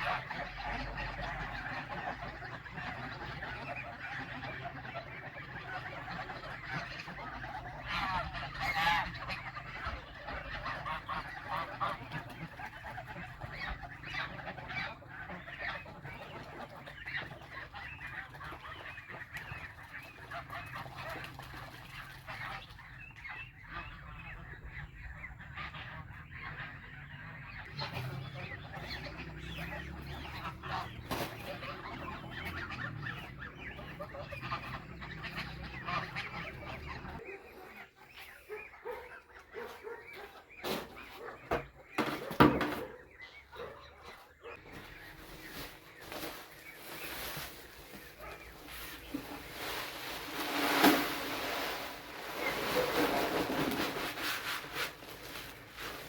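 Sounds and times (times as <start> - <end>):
poultry honking: 0.0 - 21.2, 22.2 - 56.0.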